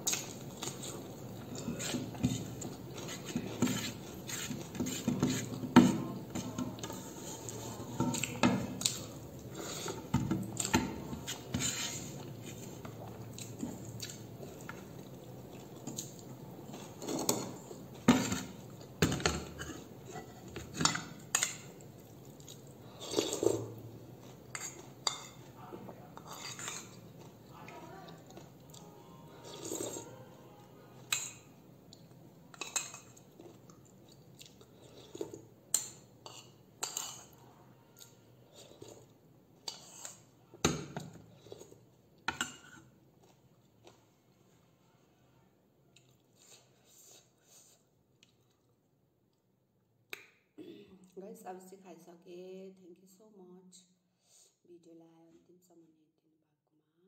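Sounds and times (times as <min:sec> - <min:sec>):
soft eating sounds: 0:00.0 - 0:51.3.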